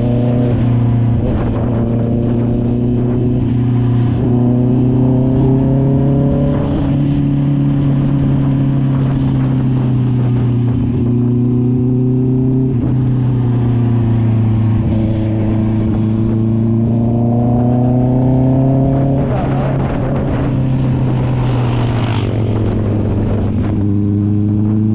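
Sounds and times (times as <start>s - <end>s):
motorcycle engine riding: 0.0s - 24.9s.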